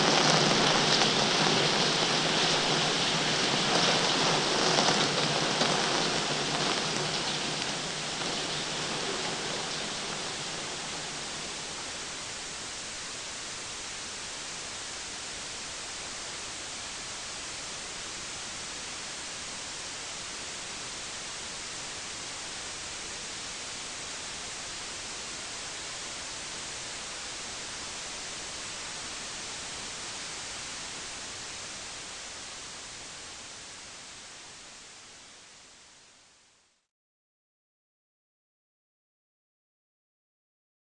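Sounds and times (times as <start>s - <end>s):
television static hiss: 0.0s - 36.9s.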